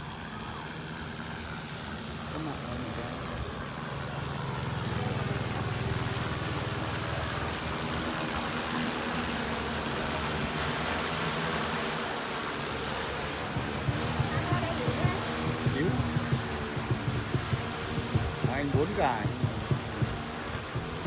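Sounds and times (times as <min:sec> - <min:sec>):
drone propellers droning: 0:00.0 - 0:21.0.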